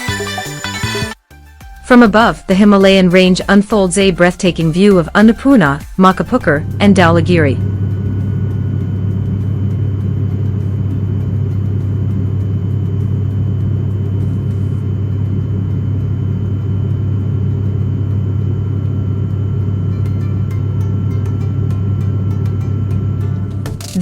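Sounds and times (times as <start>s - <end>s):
airliner cabin engine drone: 3.9s - 24.0s
faint steady whining tones: 3.9s - 24.0s.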